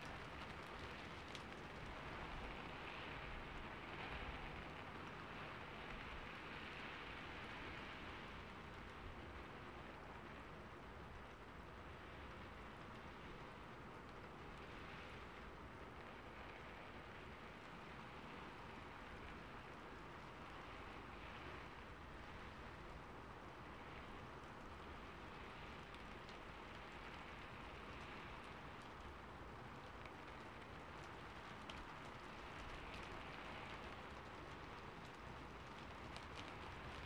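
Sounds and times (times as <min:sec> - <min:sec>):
rain on a rooftop: 0:00.0 - 0:37.0.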